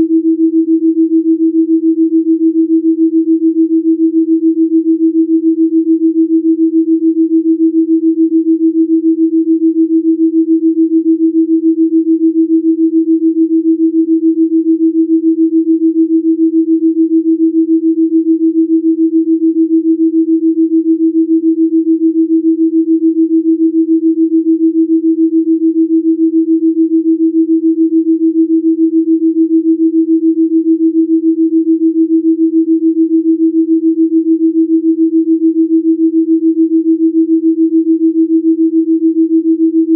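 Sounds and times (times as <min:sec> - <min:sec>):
throbbing low sine tone: 0:00.0 - 0:39.9.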